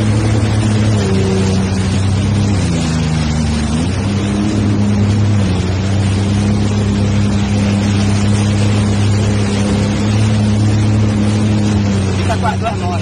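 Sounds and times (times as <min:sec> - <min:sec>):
jet ski engine running: 0:00.0 - 0:13.0
rushing water noise: 0:00.0 - 0:13.0.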